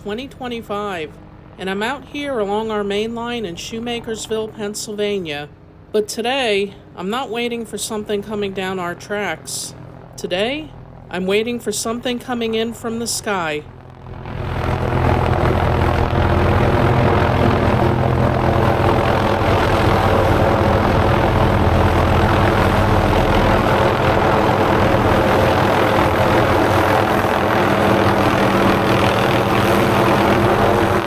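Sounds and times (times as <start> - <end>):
helicopter flying: 0.0 - 31.0.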